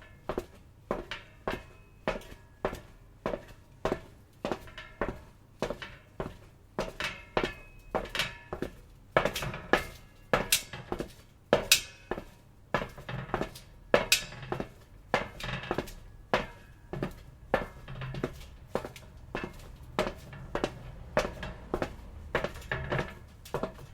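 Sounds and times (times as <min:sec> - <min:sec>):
footsteps on metal: 0:00.0 - 0:23.9.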